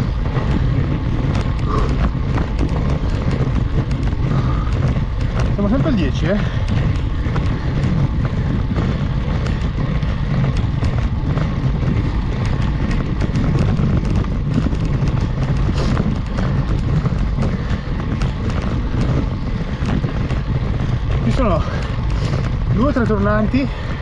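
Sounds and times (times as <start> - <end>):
bicycle riding rumble: 0.0 - 24.0
short irregular ticks: 0.0 - 24.0
wind on microphone: 0.0 - 24.0.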